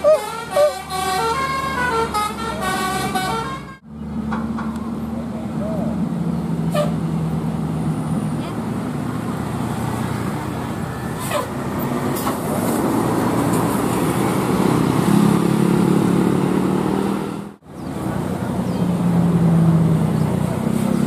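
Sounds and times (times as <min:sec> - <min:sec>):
bus engines droning: 0:00.0 - 0:21.0
motorbikes passing: 0:00.0 - 0:21.0
road noise: 0:00.0 - 0:21.0.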